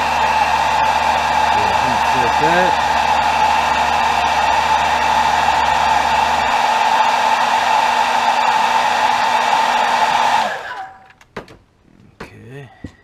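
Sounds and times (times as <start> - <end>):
hair dryer blowing: 0.0 - 10.9.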